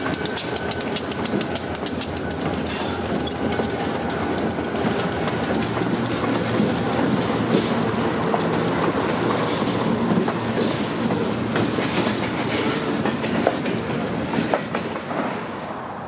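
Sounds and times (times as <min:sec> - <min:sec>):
wheels clicking over rail joints: 0:00.0 - 0:15.3
freight train cars rolling past: 0:00.0 - 0:16.0.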